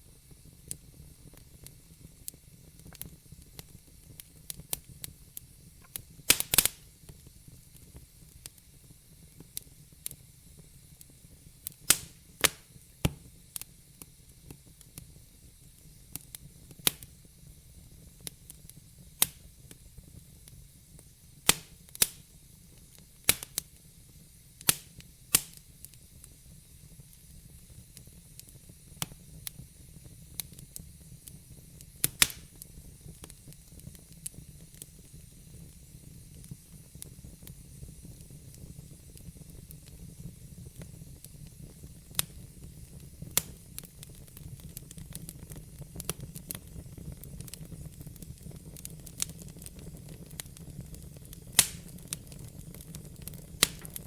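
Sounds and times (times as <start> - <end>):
fire crackling and popping: 0.0 - 54.0
low rumble and hiss: 0.0 - 54.0.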